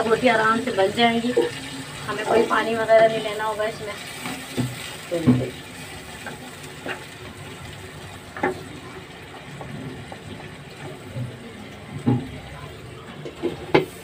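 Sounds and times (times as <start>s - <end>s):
chicken sizzling in a wok: 0.0s - 14.0s.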